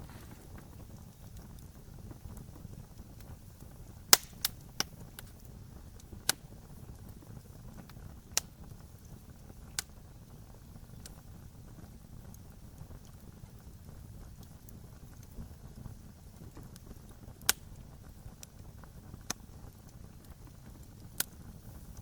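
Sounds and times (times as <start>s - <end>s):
campfire rumble: 0.0s - 22.0s
wood popping and crackling: 0.0s - 22.0s.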